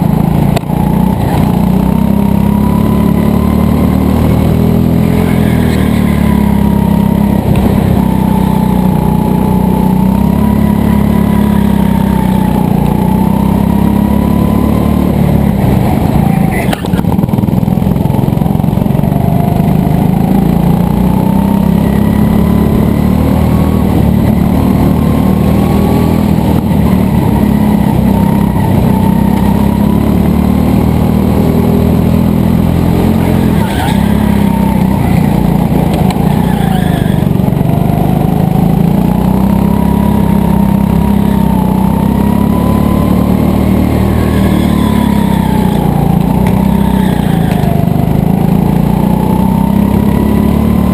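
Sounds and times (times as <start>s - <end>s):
go-kart engine running hard: 0.0s - 50.9s.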